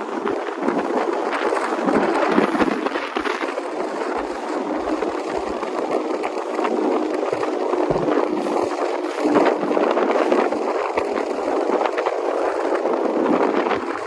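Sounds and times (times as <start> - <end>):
boat engine: 0.0 - 14.0
water rushing: 0.0 - 14.0
wind buffeting microphone: 0.0 - 14.0.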